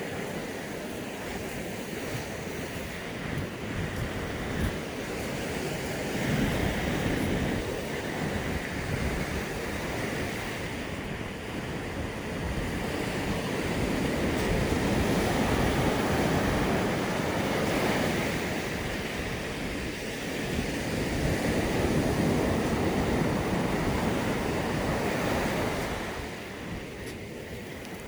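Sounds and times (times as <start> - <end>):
sea surf washing onto beach: 0.0 - 28.0.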